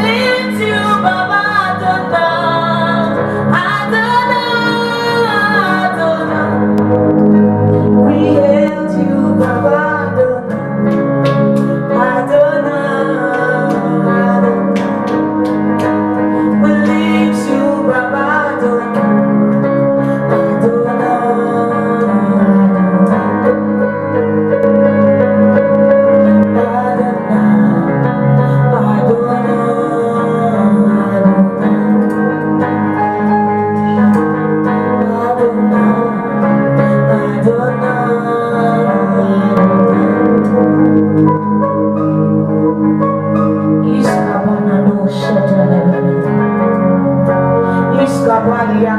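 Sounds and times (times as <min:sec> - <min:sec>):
guitar accompaniment: 0:00.0 - 0:48.9
keyboard accompaniment: 0:00.0 - 0:48.9
person singing: 0:00.0 - 0:48.9.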